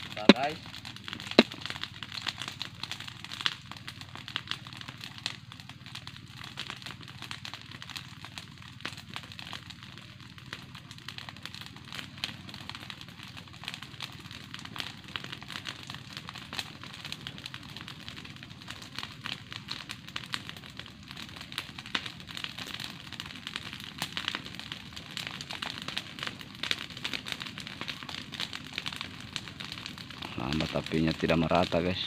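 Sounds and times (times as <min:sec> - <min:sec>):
fire crackling and popping: 0:00.0 - 0:32.0.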